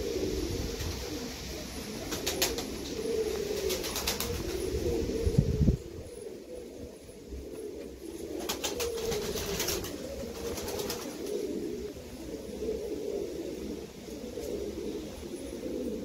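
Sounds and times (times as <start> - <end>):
pigeon cooing: 0.0 - 16.0.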